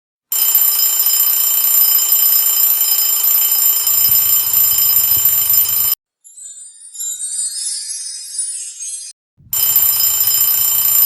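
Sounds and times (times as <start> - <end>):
alarm clock ringing: 0.3 - 8.9, 9.6 - 11.0.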